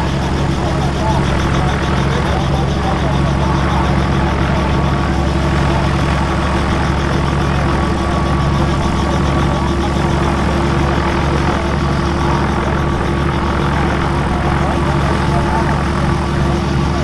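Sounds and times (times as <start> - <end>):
helicopter idling: 0.0 - 17.0.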